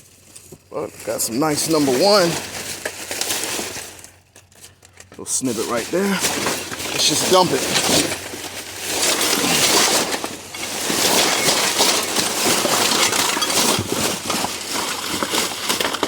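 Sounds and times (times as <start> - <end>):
hands rummaging through scrap: 0.0 - 16.0.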